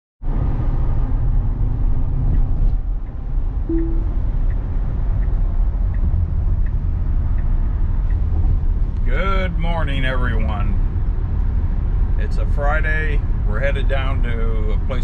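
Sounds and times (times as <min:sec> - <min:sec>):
car road and engine noise: 0:00.2 - 0:15.0.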